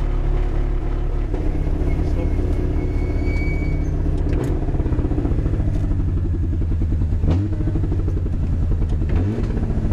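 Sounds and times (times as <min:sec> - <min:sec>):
car engine idling low revs: 0:00.0 - 0:09.9.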